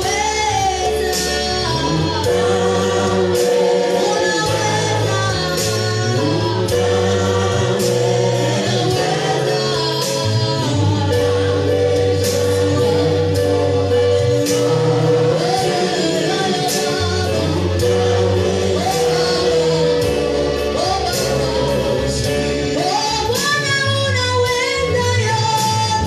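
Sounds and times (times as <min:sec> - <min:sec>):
gospel choir singing: 0:00.0 - 0:26.0
held chord and bass line: 0:00.0 - 0:26.0.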